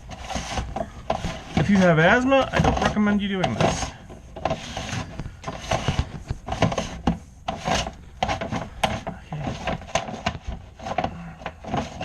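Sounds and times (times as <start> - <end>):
brush scraping inside duct: 0.0 - 12.0.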